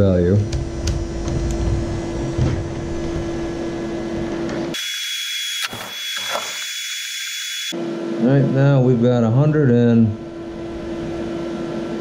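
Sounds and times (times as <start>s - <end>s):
blower fan hum and whine: 0.0s - 12.0s.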